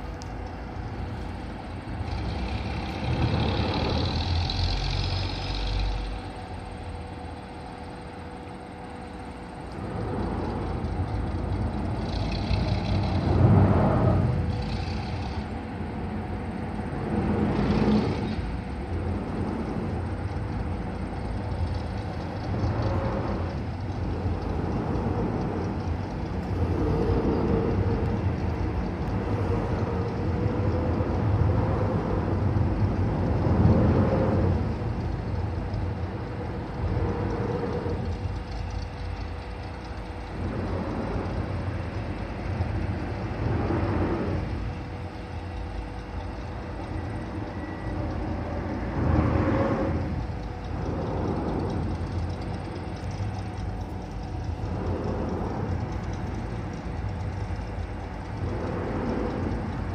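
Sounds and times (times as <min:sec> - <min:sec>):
distant locomotive engine rumble: 0:00.0 - 0:59.9
engine surges with hiss: 0:00.0 - 0:59.9.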